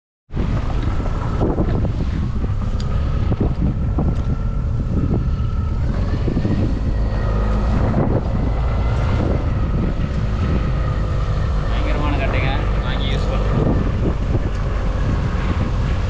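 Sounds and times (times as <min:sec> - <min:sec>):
boat engine running: 0:00.3 - 0:16.0
wind buffeting microphone: 0:00.3 - 0:16.0.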